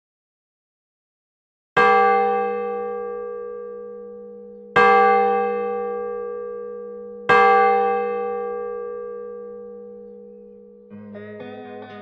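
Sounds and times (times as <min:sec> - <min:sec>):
deep bell tolling: 0:01.8 - 0:12.0.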